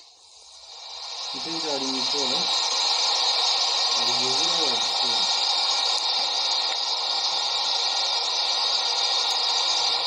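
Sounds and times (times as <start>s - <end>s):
steady static hiss: 0.0s - 10.0s.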